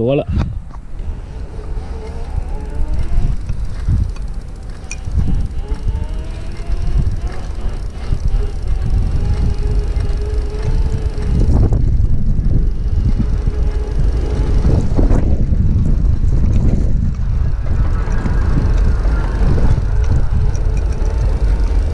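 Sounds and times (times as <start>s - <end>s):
heavy wind rumble on microphone: 0.0s - 21.9s
faint electric motor whine: 0.6s - 21.9s.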